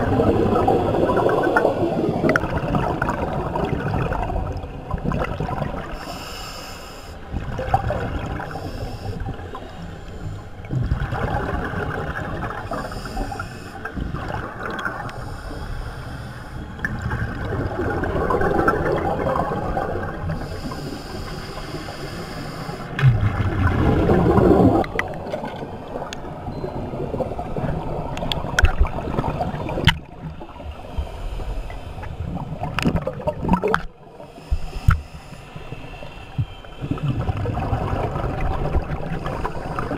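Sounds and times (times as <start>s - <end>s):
exhaled bubbles gurgling: 0.0s - 6.2s, 7.3s - 9.8s, 10.6s - 15.7s, 16.7s - 35.1s, 36.3s - 39.9s.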